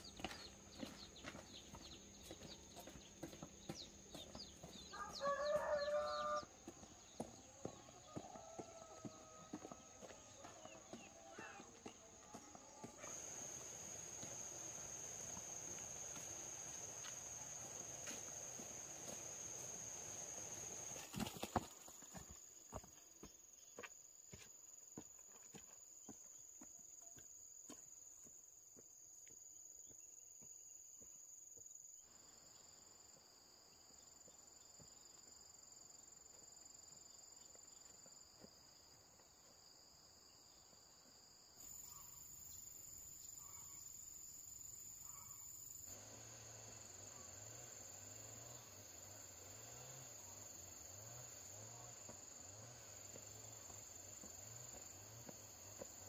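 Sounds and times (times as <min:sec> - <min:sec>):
insects trilling: 0:00.0 - 0:27.8, 0:29.2 - 0:56.0.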